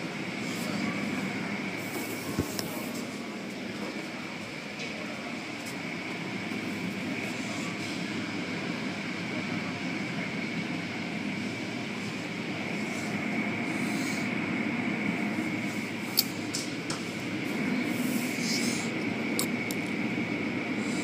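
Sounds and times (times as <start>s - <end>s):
steady high whine: 0.0s - 21.0s.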